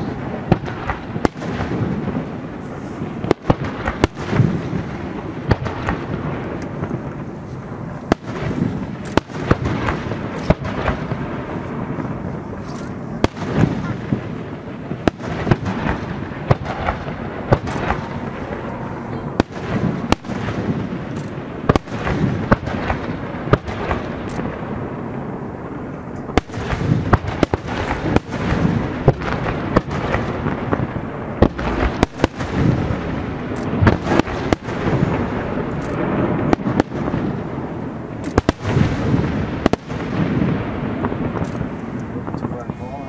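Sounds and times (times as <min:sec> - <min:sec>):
fireworks bursting: 0:00.0 - 0:43.0.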